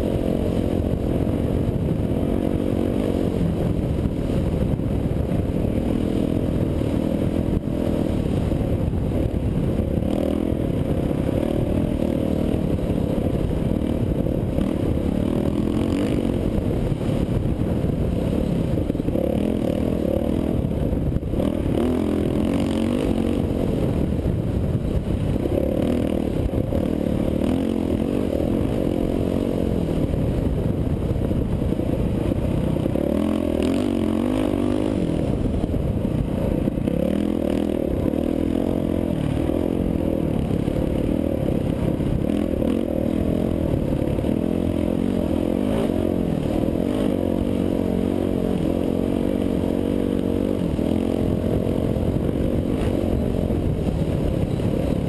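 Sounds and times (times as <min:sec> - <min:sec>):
dirt bike engine revving: 0:00.0 - 0:55.0
wind on microphone: 0:00.0 - 0:55.0.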